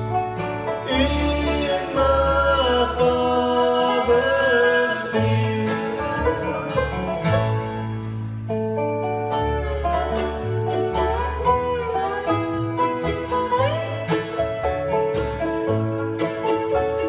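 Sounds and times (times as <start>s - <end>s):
acoustic guitar: 0.0s - 17.0s
banjo: 0.0s - 17.0s
mandolin: 0.0s - 17.0s
resonator guitar sliding notes: 0.0s - 17.0s
upright bass plucking: 0.0s - 17.0s.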